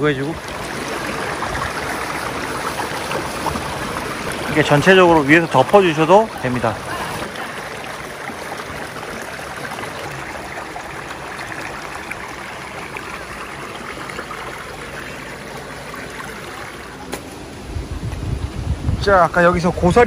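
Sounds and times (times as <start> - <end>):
stream flowing over rocks: 0.0 - 18.8.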